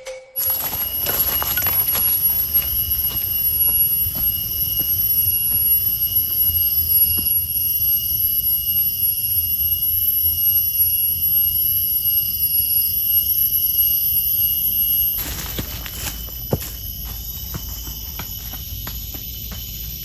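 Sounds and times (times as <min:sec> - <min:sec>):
insects shrilling: 0:00.4 - 0:20.0.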